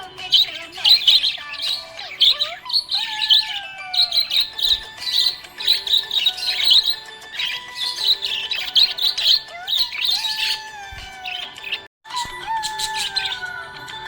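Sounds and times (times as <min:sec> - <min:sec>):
budgerigar chirping and warbling: 0:00.0 - 0:13.8.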